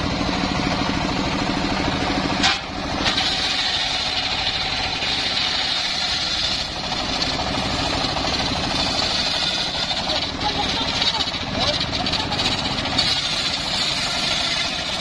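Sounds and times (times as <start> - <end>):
sawmill engine running: 0.0 - 15.0
saw blade cutting wood: 2.4 - 15.0.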